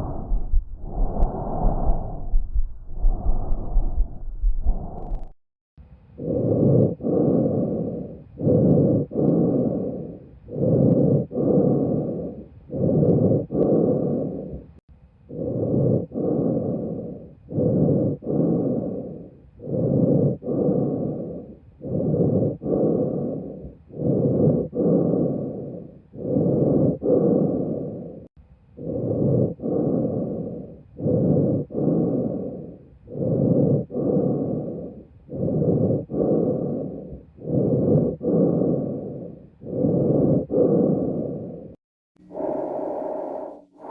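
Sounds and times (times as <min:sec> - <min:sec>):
breathing through stethoscope: 0:00.0 - 0:05.3, 0:06.2 - 0:43.9.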